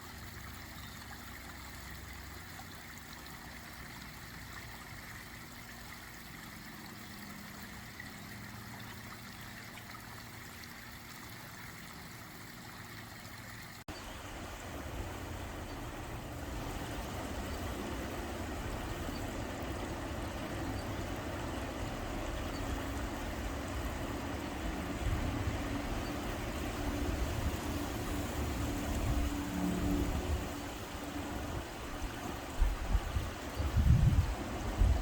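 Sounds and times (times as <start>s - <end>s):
pond waterfall trickling and splashing: 0.0s - 35.0s
water rushing: 0.0s - 35.0s.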